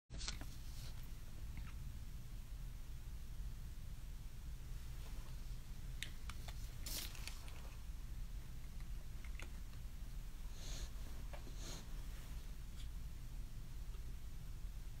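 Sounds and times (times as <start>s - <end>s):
low steady hum: 0.1s - 15.0s.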